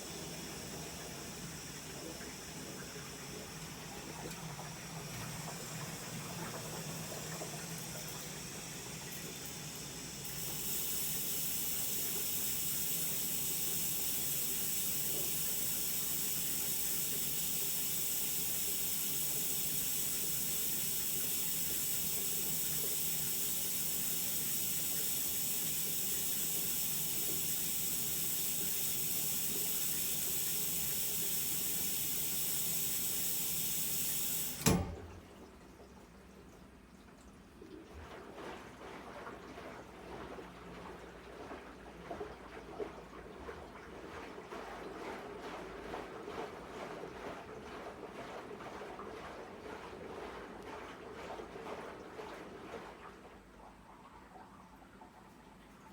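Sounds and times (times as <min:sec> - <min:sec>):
water pouring into washing machine: 0:00.0 - 0:55.2.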